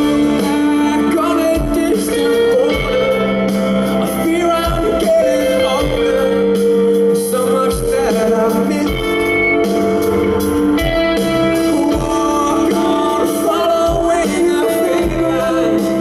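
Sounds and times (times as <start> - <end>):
man singing into microphone: 0.0 - 10.0, 11.4 - 16.0
live rock band playing: 0.0 - 16.0.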